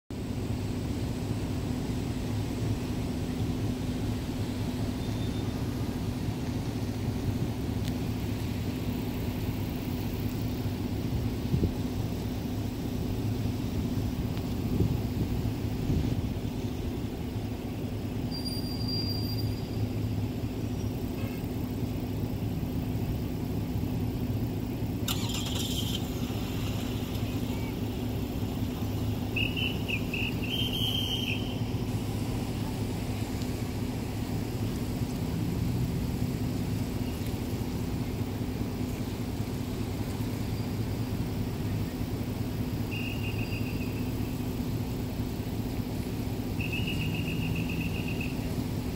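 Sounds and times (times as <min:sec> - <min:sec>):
engines idling: 0:00.1 - 0:48.9
road traffic rumble: 0:00.1 - 0:48.9
cars passing: 0:00.2 - 0:48.9.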